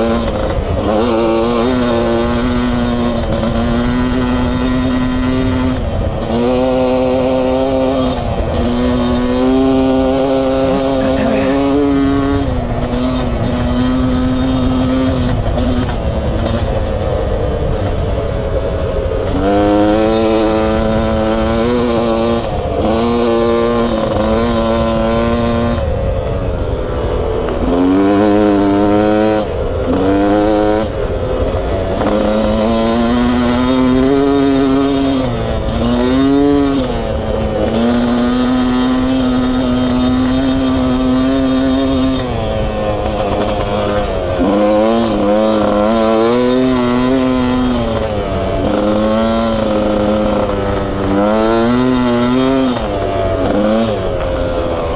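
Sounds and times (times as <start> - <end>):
two-stroke engine revving: 0.0 - 54.9.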